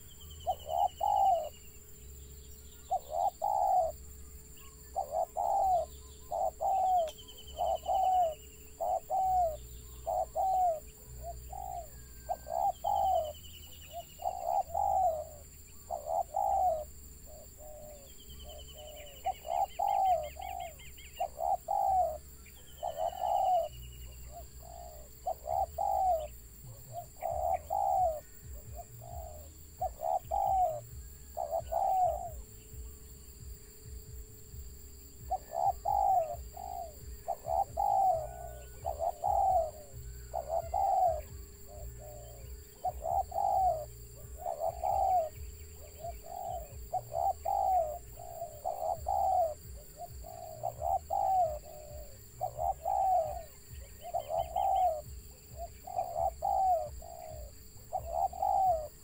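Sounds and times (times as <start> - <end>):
bird chirping with trill: 0.0 - 59.0
dove cooing: 0.0 - 59.0.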